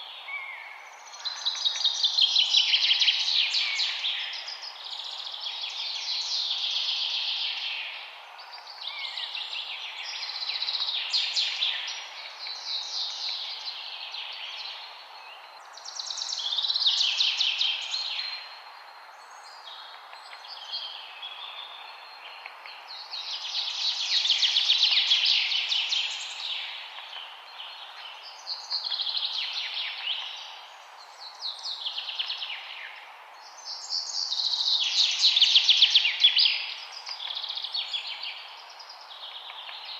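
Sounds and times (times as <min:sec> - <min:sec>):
songbirds singing: 0:00.0 - 0:39.9
steady background hiss: 0:00.0 - 0:39.9.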